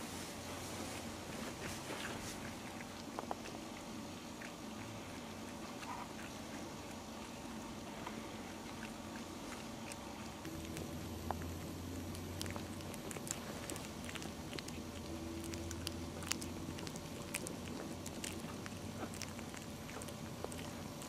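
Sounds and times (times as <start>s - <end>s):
steady low hum: 0.0s - 21.0s
puppies licking and chewing: 0.1s - 21.0s.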